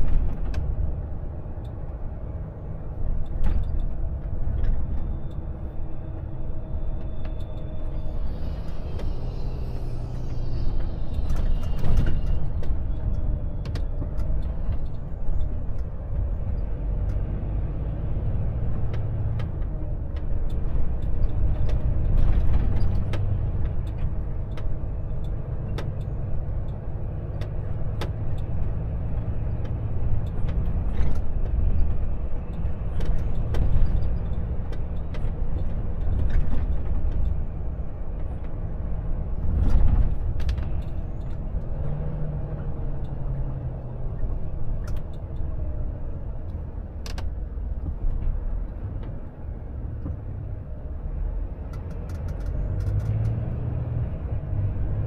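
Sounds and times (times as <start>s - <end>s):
road noise: 0.0s - 55.0s
truck engine drone: 0.0s - 55.0s.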